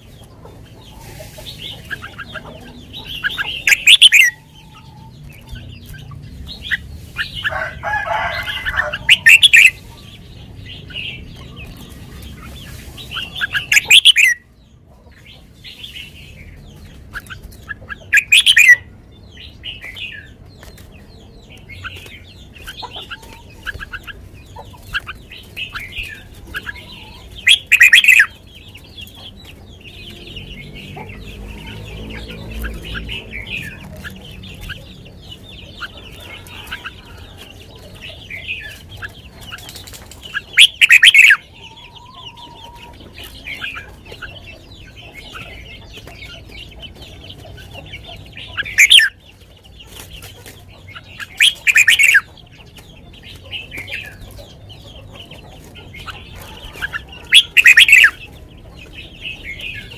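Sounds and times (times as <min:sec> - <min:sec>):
bird chirps and twitters: 0:00.0 - 0:59.9
bird song phrases: 0:00.0 - 0:59.9.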